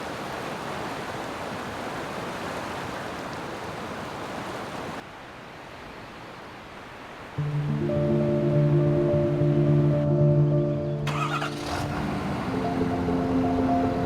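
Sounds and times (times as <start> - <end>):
river water rushing: 0.0 - 8.8, 11.0 - 14.0.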